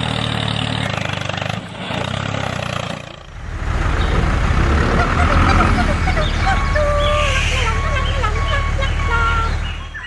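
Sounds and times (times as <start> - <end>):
small engine pulsing: 0.0 - 10.0.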